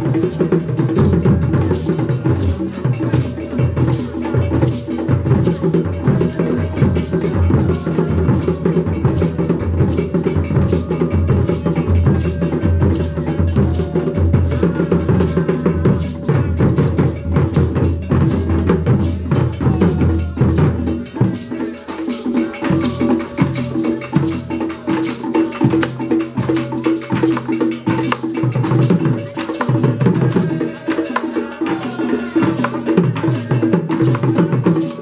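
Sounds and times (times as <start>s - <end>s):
wooden drum ensemble: 0.0s - 35.0s.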